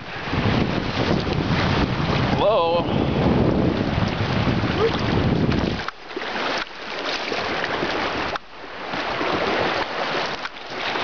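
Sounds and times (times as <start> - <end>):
whitewater river rushing: 0.0 - 11.0
wind buffeting microphone: 0.0 - 11.0.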